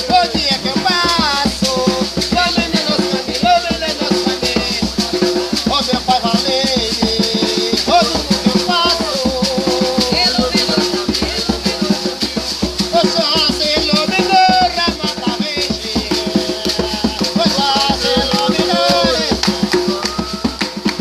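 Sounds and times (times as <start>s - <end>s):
shaker rattle: 0.0s - 21.0s
upbeat music with fast beat: 0.0s - 21.0s.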